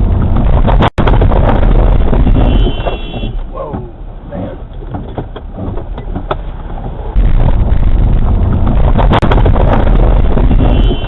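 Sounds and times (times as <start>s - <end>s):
car road and wind noise: 0.0s - 11.0s.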